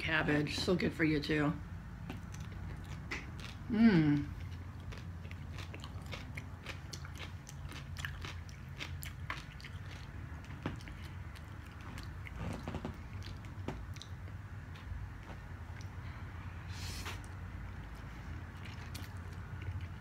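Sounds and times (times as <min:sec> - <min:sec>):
low steady hum: 0:00.0 - 0:20.0
chewing and biting food: 0:02.0 - 0:16.0, 0:17.1 - 0:20.0.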